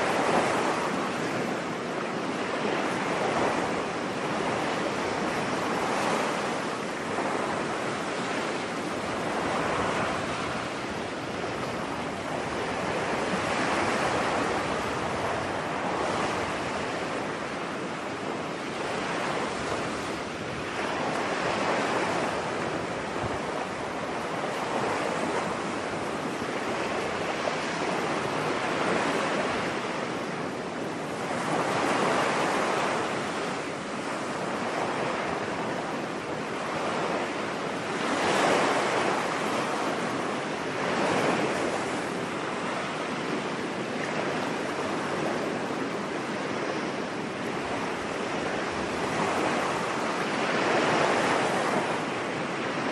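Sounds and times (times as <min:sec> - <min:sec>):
ocean waves washing on shore: 0:00.0 - 0:52.9.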